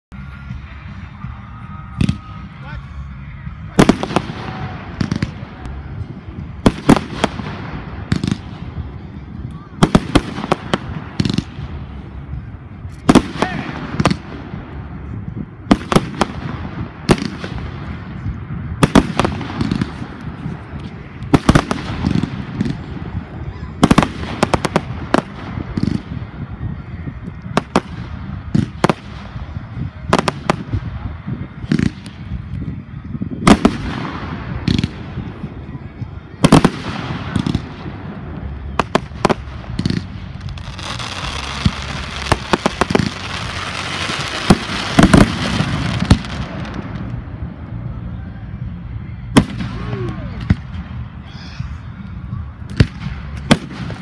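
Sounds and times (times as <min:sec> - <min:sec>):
low rumble: 0:00.1 - 0:54.0.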